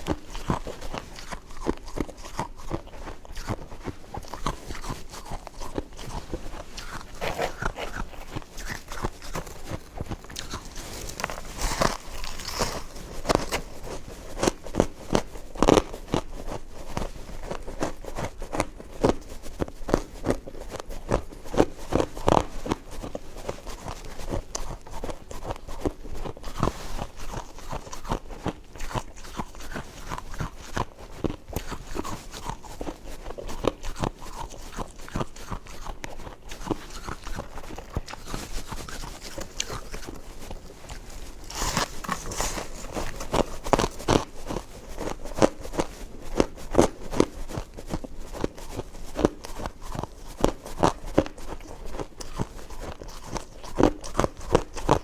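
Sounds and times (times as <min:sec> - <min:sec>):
ice crunching being chewed: 0:00.0 - 0:55.0.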